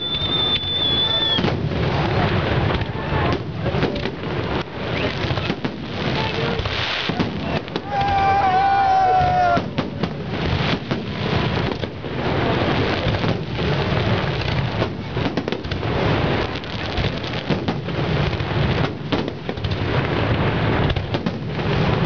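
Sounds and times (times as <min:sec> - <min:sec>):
fireworks bursts and crackling: 0:00.0 - 0:22.0.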